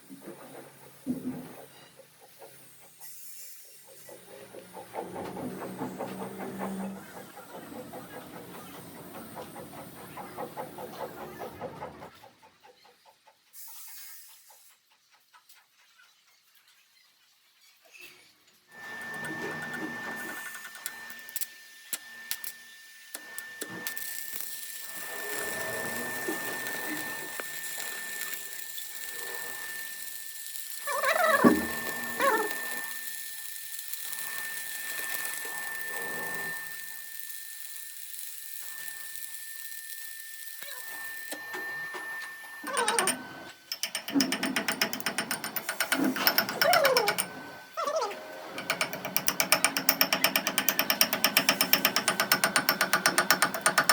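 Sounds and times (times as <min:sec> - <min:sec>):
machine whining: 0:04.1 - 0:12.1, 0:18.8 - 0:53.9.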